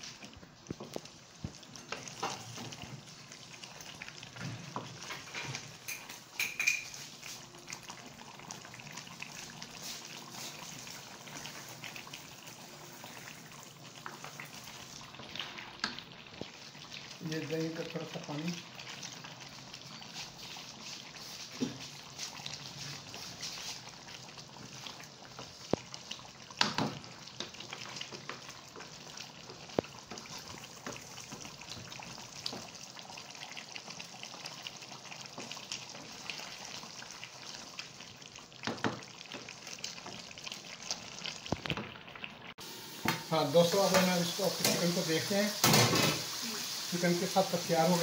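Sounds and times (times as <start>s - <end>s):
yogurt sauce bubbling and sizzling: 0.0s - 48.0s.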